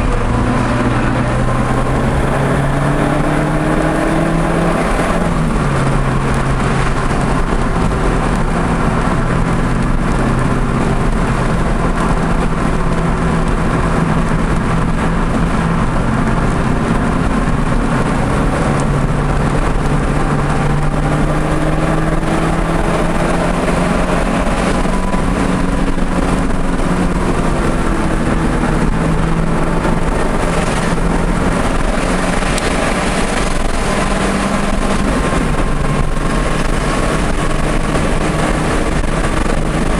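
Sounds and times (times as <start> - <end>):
car engine revving hard: 0.0 - 39.9
road and wind noise: 0.0 - 39.9.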